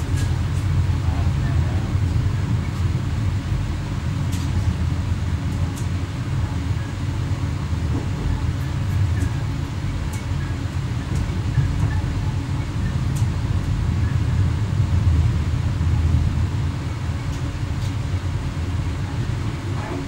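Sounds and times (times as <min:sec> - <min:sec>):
train cab rumble: 0:00.0 - 0:20.0.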